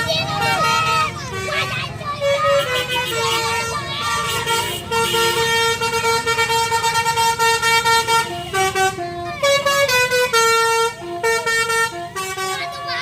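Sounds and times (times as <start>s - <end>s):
low engine rumble: 0.0s - 13.0s
bus air horn playing a melody: 0.4s - 13.0s.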